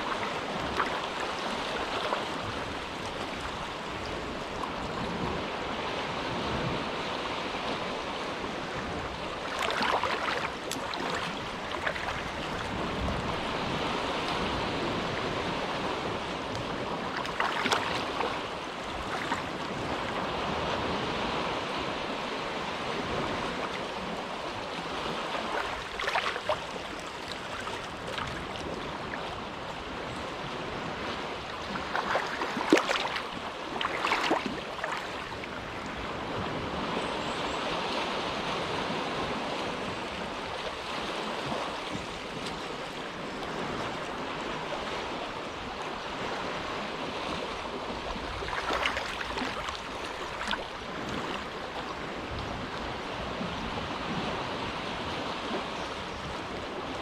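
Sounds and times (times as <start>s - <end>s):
water splashes: 0.0s - 5.4s, 8.8s - 46.4s, 47.1s - 54.4s
gentle waves lapping on shore: 0.0s - 57.0s.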